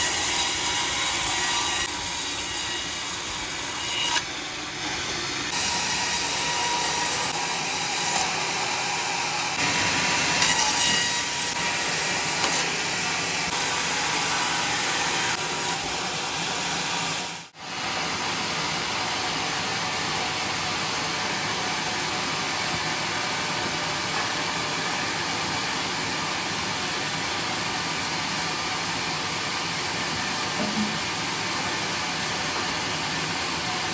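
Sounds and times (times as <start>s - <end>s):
sawmill saw whining through log: 0.0s - 30.5s.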